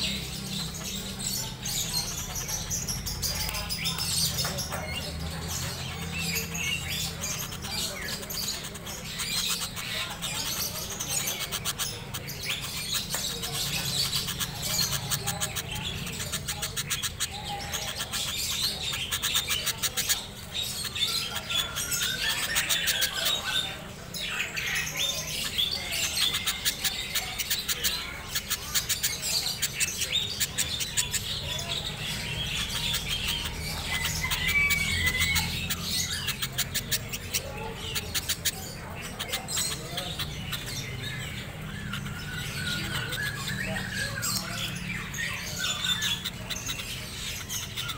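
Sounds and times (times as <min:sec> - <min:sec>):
bird chirping and squawking: 0:00.0 - 0:47.9.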